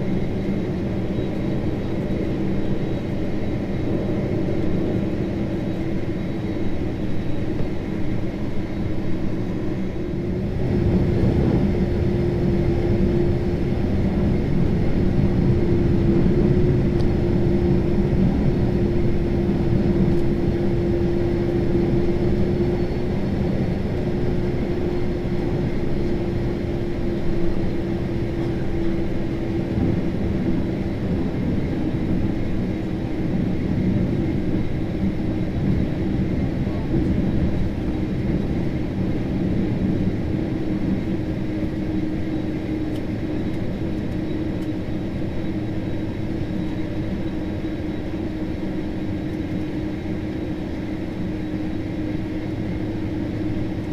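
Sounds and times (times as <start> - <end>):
aircraft engine rumble: 0.0 - 53.9.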